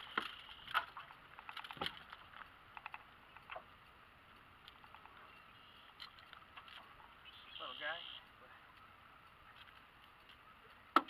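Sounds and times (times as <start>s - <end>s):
fishing gear clicks and ticks: 0.0s - 7.0s, 8.0s - 11.0s.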